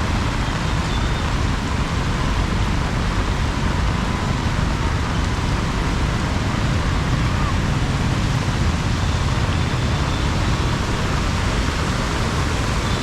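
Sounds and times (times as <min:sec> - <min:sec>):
heavy rain downpour: 0:00.0 - 0:13.0.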